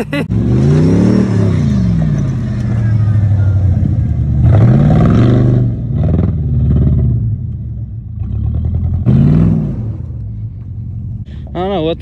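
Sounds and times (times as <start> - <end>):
truck engine revving: 0.0 - 10.4.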